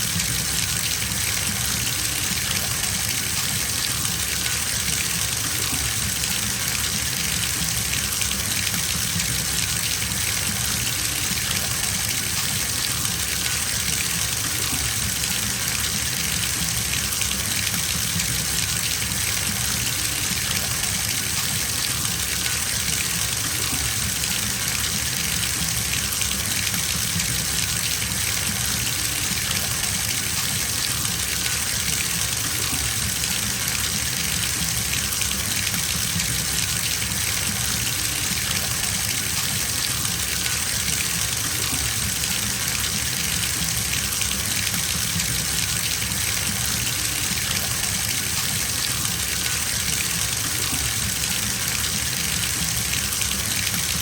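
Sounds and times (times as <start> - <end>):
water pouring into bathtub: 0.0 - 54.0.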